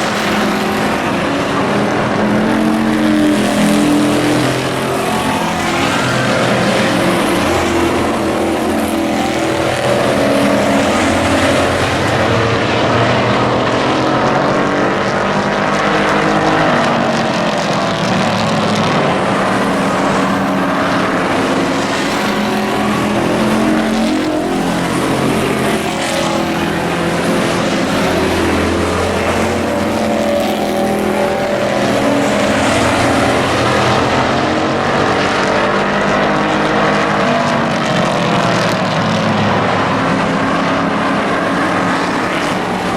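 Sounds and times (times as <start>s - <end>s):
model race truck engines passing: 0.0s - 42.9s.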